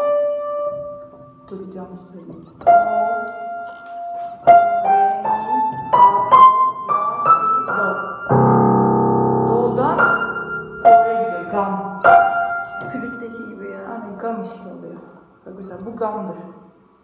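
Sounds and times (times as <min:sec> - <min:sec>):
upright piano playing: 0:00.0 - 0:01.9, 0:02.5 - 0:14.6.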